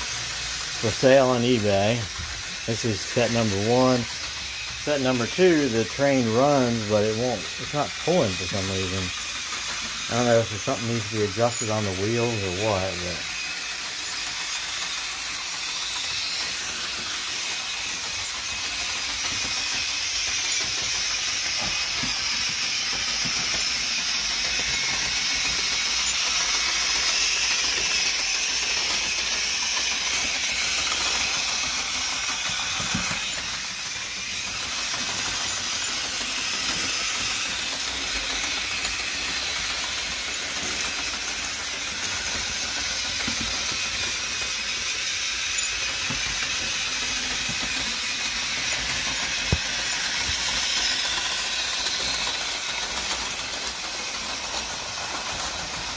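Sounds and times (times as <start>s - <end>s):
toy train motor whirring: 0.0s - 55.9s.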